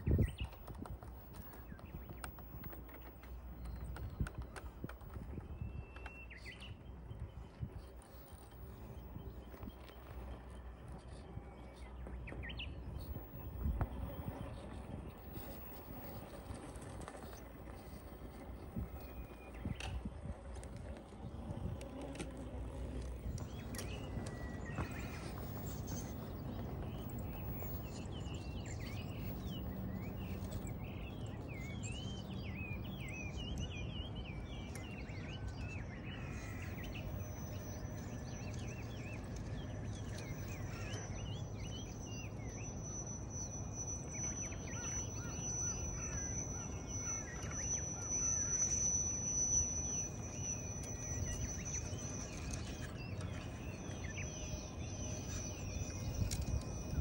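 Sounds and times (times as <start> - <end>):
birds chirping: 0.0 - 57.0
outdoor background noise: 0.0 - 57.0
steady high whine: 0.0 - 57.0.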